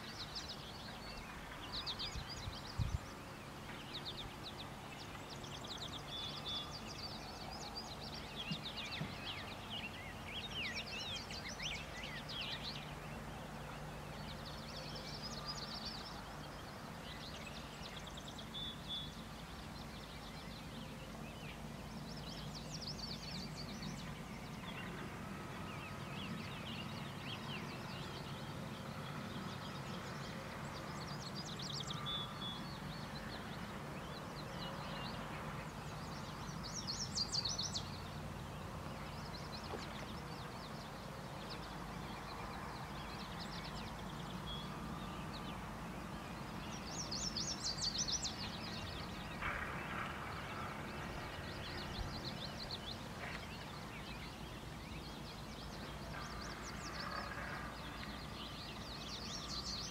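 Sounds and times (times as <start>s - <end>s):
low outdoor hum: 0.0s - 59.9s
songbirds chirping: 0.0s - 59.9s.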